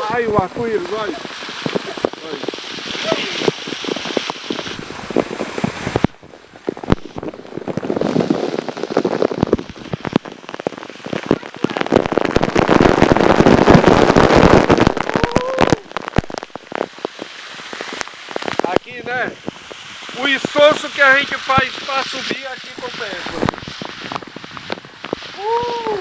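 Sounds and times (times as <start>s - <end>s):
waterfall splashing: 0.0s - 26.0s.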